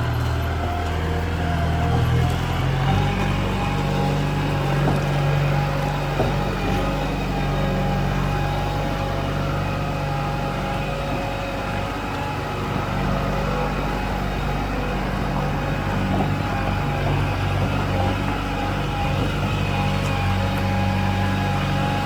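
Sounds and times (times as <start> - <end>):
diesel engine droning: 0.0 - 22.0
high-pitched engine whine: 0.0 - 22.0.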